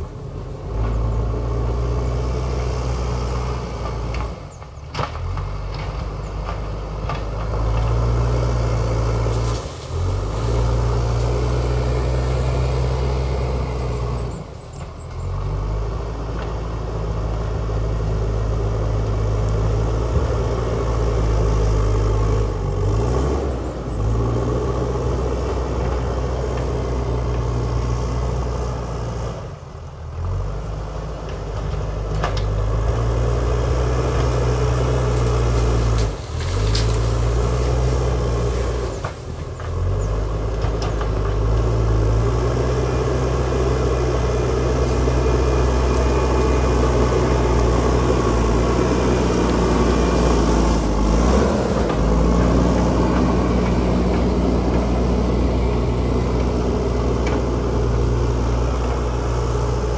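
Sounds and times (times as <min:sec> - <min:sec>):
diesel engine running hard: 0:00.0 - 0:59.9.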